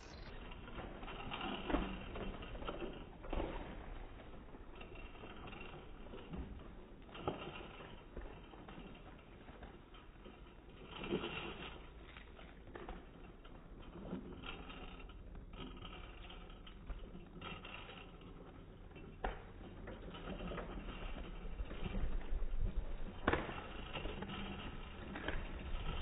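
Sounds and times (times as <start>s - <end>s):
bike rattling: 0.0s - 26.0s
bike wheels rumbling on concrete: 0.0s - 26.0s.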